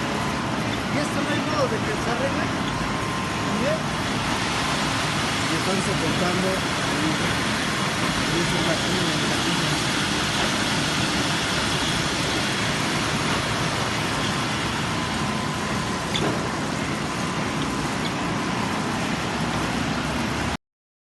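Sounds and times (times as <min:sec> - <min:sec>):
machinery running hiss: 0:00.0 - 0:20.5.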